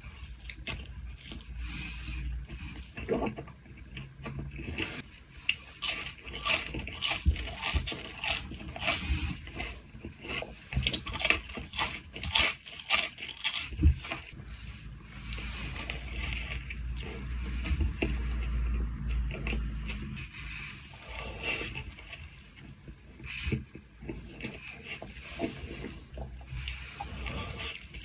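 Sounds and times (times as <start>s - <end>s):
crisp crunching and chewing: 0.0s - 14.4s, 15.0s - 28.0s.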